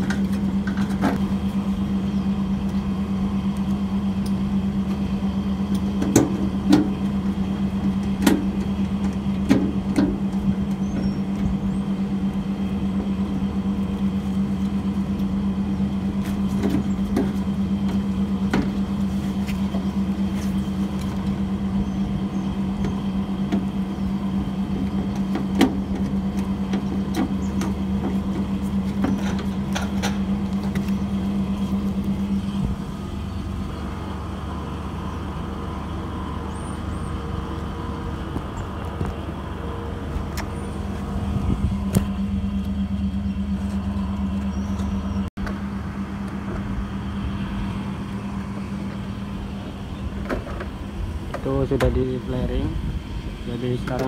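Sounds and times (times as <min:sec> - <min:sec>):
machine hum with low rumble: 0:00.0 - 0:54.0.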